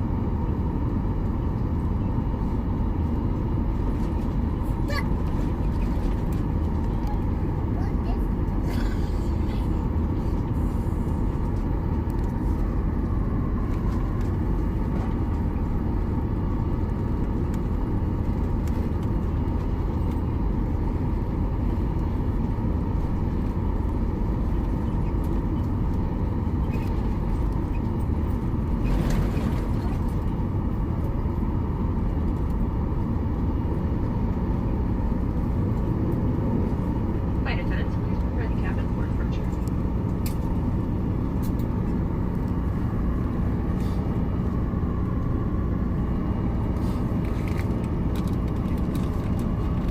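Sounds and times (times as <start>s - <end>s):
vehicle interior rumble: 0.0s - 49.9s.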